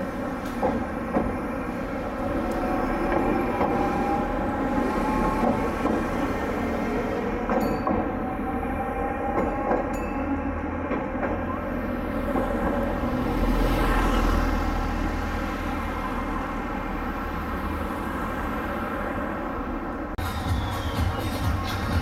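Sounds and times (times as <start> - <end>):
bus engine rumbling: 0.0 - 22.0
street traffic: 0.0 - 22.0.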